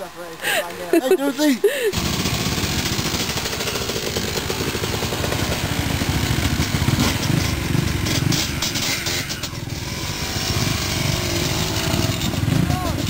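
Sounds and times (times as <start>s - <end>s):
motorcycle engine running: 1.3s - 13.0s.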